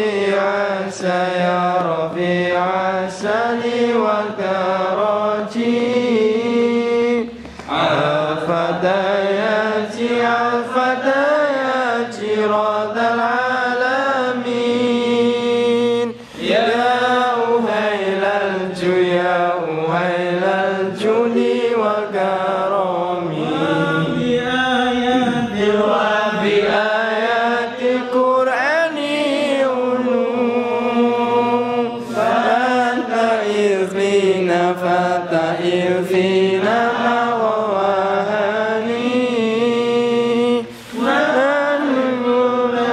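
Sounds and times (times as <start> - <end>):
men chanting together: 0.0 - 42.9.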